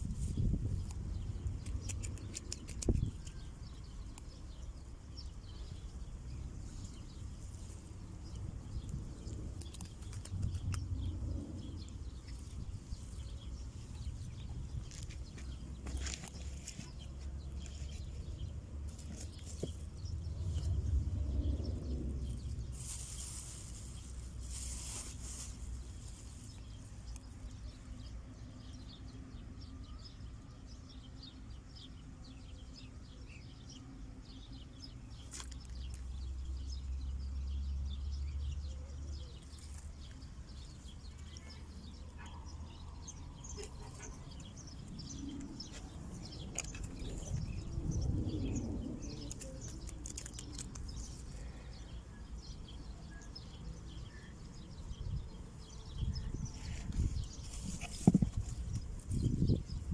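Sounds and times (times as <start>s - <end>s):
small birds chirping: 0.0s - 59.9s
steady outdoor background: 0.0s - 59.9s.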